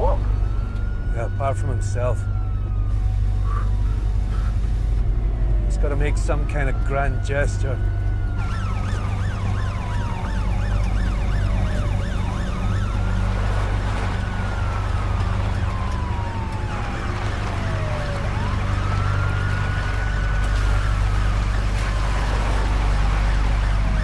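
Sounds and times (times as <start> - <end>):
low rumble: 0.0 - 24.0
police siren wailing: 0.0 - 24.0
police siren yelping: 0.0 - 24.0.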